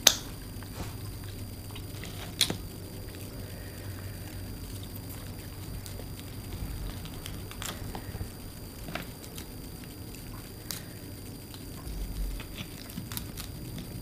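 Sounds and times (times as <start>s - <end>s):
low steady hum: 0.0s - 14.0s
shells cracking and chewing: 0.0s - 14.0s
soft wet squishing: 0.0s - 14.0s.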